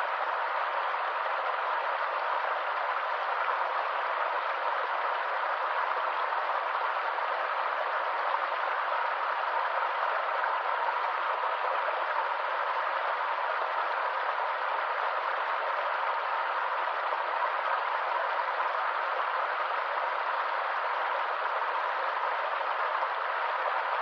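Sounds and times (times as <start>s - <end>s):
stream flowing: 0.0s - 24.0s.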